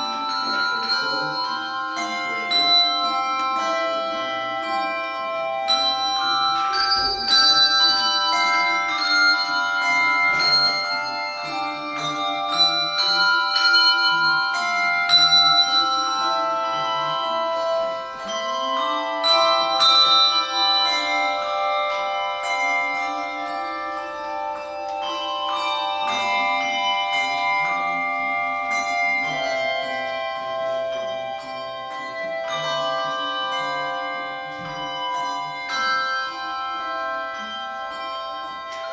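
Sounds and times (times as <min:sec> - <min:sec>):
handbell choir playing: 0:00.0 - 0:38.9.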